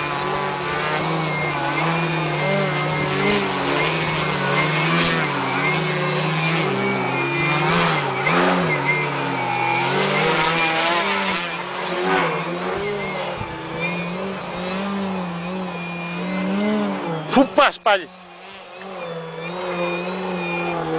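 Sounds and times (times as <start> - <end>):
model plane engine and propeller: 0.0 - 20.9.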